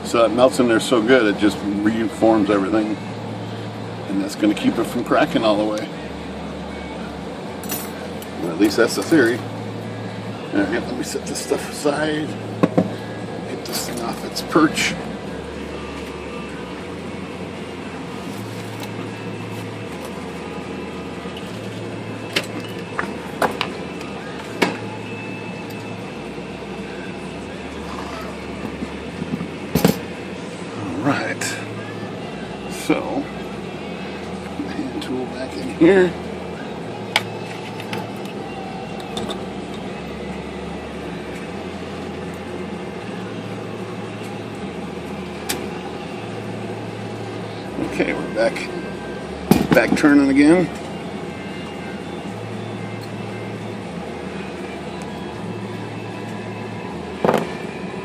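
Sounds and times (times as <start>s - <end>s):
background hum with low drone: 0.0s - 58.0s.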